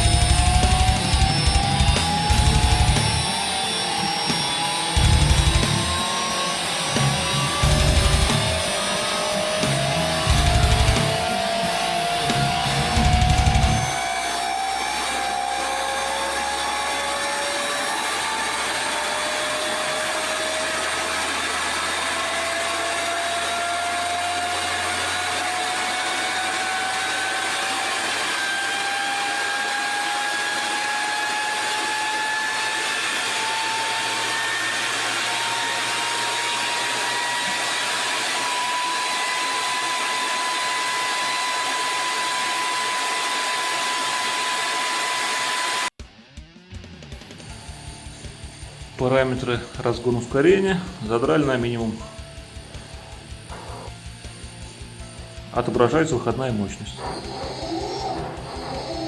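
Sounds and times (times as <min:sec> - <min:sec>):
electric motor whirring and whining: 0:00.0 - 0:46.0, 0:47.5 - 0:59.0
rock music with electric guitar: 0:00.0 - 0:59.0.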